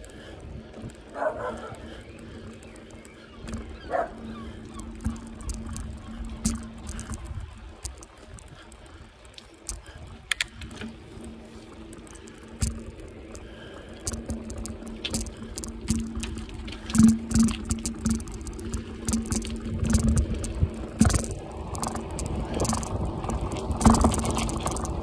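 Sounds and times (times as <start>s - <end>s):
bicycle rattling over bumps: 0.0s - 25.0s
bicycle tyres humming on road: 0.0s - 25.0s.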